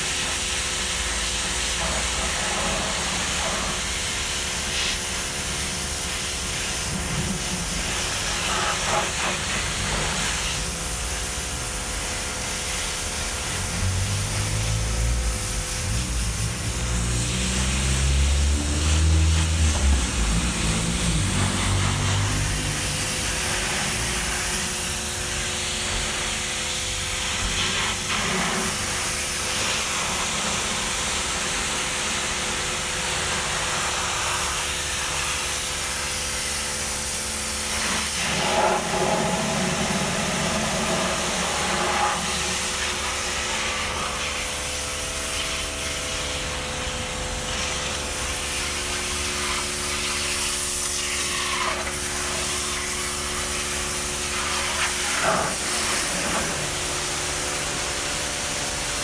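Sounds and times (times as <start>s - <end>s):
cleaning machine hissing: 0.0s - 59.0s.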